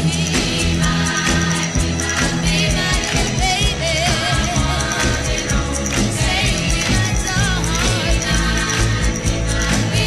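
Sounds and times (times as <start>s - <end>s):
girl-group pop song: 0.0s - 10.0s.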